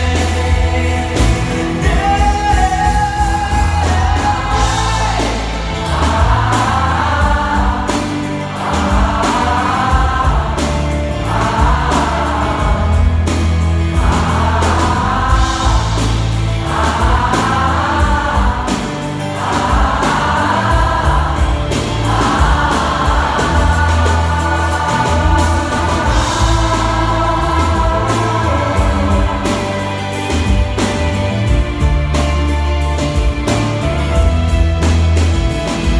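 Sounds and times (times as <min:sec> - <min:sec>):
choir singing a pop song: 0:00.0 - 0:32.2
low bass line: 0:00.0 - 0:35.9.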